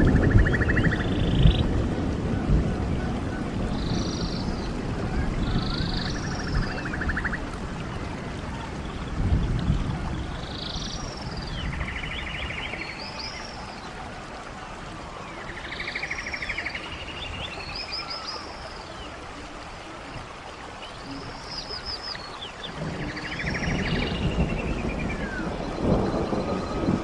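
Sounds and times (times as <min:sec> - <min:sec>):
stream running water: 0:00.0 - 0:27.0.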